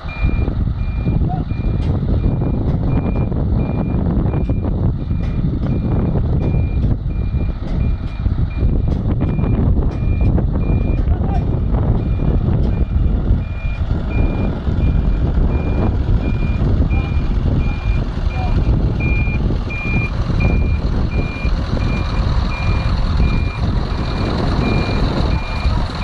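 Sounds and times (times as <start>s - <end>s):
truck diesel engine rumbling: 0.0s - 26.0s
reversing alarm beeps: 0.1s - 11.1s, 12.0s - 25.7s.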